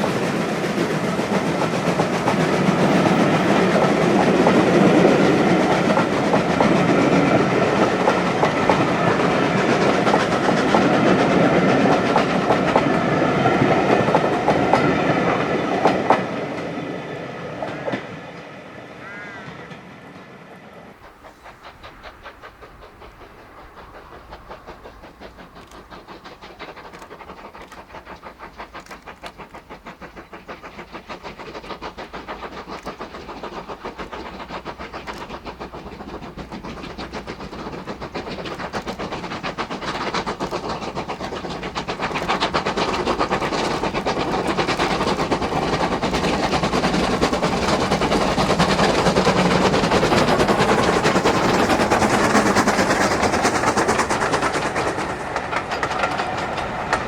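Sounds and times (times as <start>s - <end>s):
steam locomotive exhaust beats: 0.0s - 19.9s, 20.9s - 57.0s.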